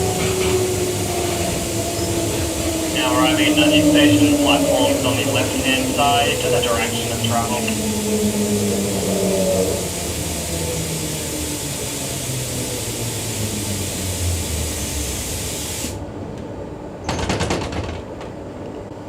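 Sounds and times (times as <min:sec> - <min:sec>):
train hiss: 0:00.0 - 0:16.1.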